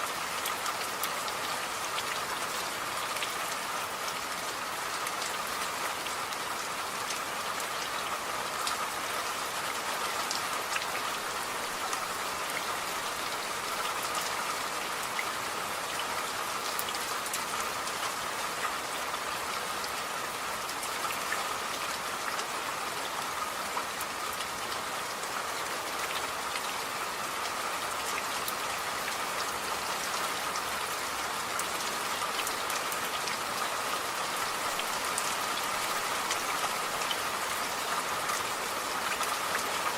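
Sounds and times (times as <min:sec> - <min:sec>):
steady rainfall pattering: 0:00.0 - 0:39.9.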